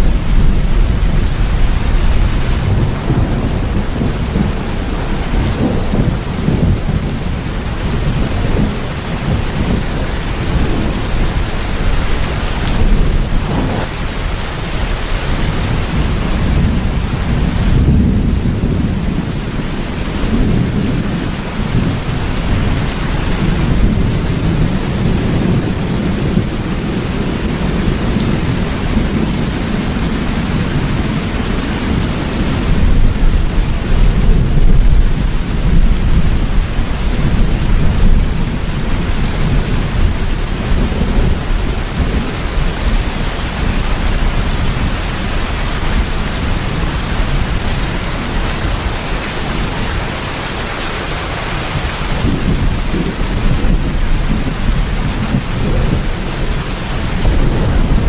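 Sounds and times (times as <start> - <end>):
rolling thunder: 0.0 - 50.4, 51.0 - 58.0
steady rain: 0.0 - 58.0.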